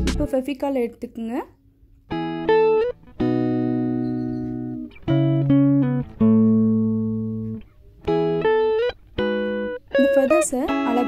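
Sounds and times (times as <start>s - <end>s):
slow plucked-string chords: 0.0s - 0.3s, 2.1s - 11.0s.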